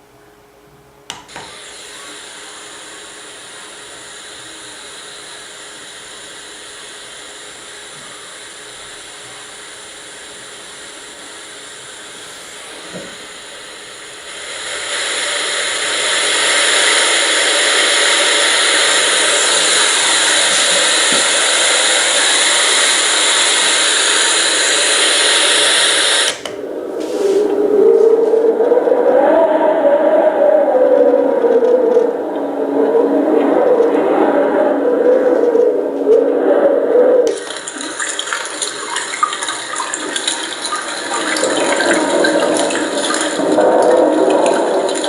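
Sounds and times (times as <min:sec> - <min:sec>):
white noise machine hiss: 0:00.0 - 0:45.0.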